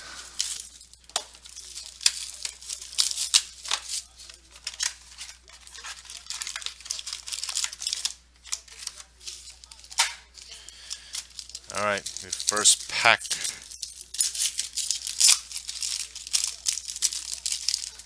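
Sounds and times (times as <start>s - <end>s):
plastic shrink-wrap tearing and crinkling: 0.1s - 18.0s.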